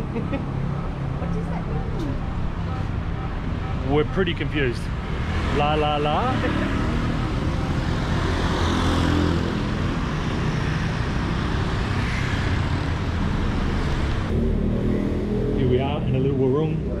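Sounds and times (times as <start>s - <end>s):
vehicles passing on road: 0.0s - 17.0s.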